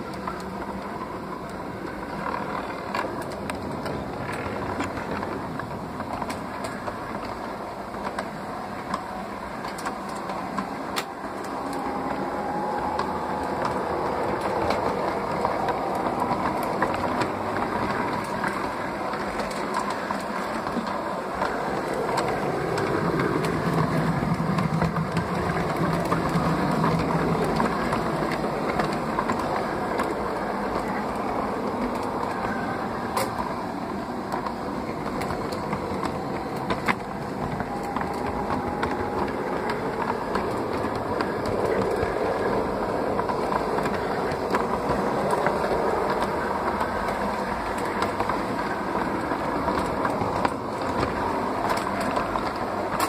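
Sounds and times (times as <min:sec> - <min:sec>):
clicks over rail joints: 0:00.0 - 0:53.0
model train motor and wheels whirring: 0:00.0 - 0:53.0.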